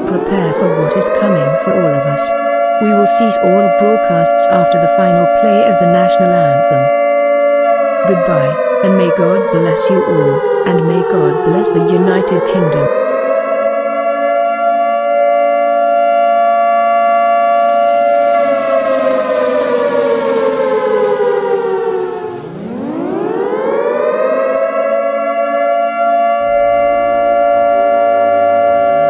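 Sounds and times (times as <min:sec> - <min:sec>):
air-raid siren wailing: 0:00.0 - 0:29.0.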